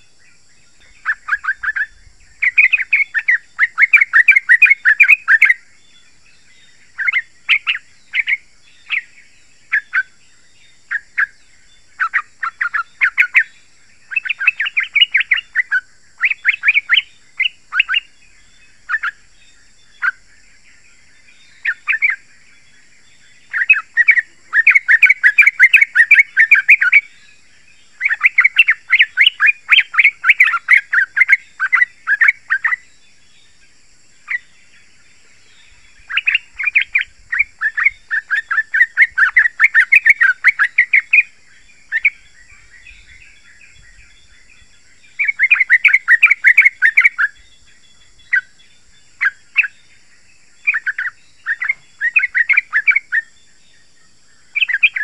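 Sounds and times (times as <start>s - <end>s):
bulbul singing: 0.0s - 53.7s, 54.4s - 55.0s.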